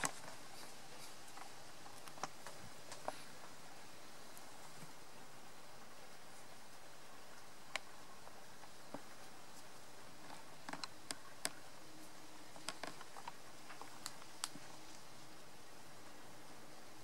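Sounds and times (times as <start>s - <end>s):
faint steady hum: 0.0s - 17.0s
steady low hiss: 0.0s - 17.0s.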